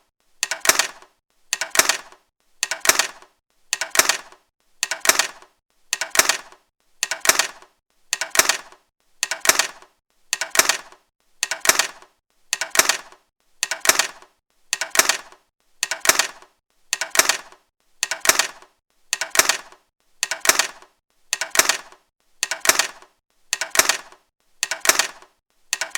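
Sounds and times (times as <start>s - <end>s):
eyeglasses clattering on laptop: 0.4s - 25.9s.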